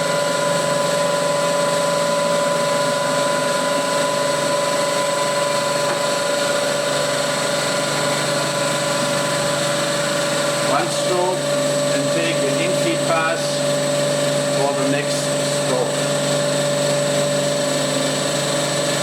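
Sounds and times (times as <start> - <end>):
grinding machine whine: 0.0 - 19.0.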